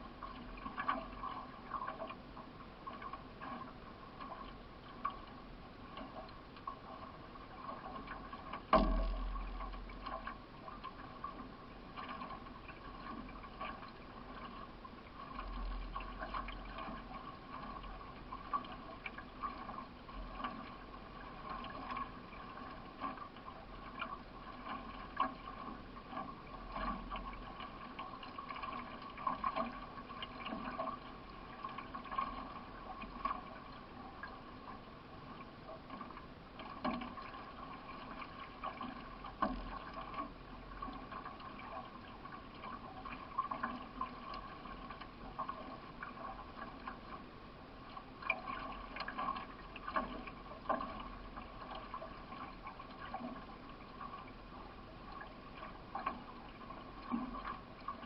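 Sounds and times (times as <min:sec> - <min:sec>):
paddle strokes splashing: 0:00.0 - 0:58.0
water running along hull: 0:00.0 - 0:58.0.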